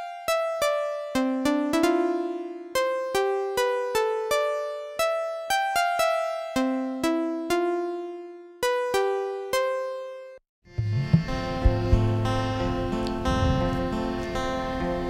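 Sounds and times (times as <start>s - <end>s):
slow electric piano melody: 0.0s - 10.4s, 11.1s - 15.0s.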